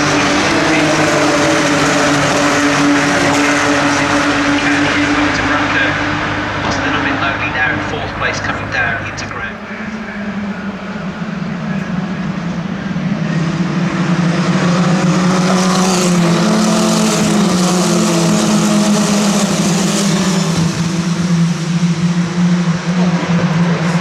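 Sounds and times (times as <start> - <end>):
racing car engines passing: 0.0 - 24.0.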